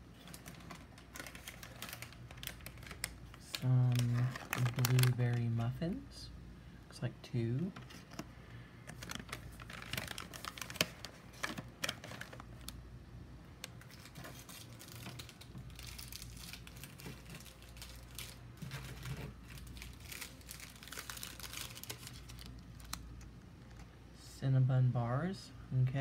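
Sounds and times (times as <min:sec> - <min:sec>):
plastic wrappers crinkling: 0:00.1 - 0:05.8, 0:07.8 - 0:12.8, 0:13.6 - 0:23.9.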